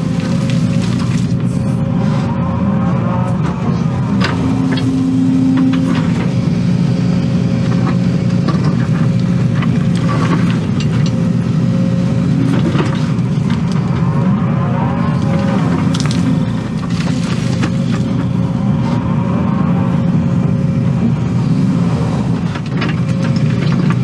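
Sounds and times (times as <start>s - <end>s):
excavator diesel engine running: 0.0s - 24.0s
steady whine: 0.0s - 24.0s.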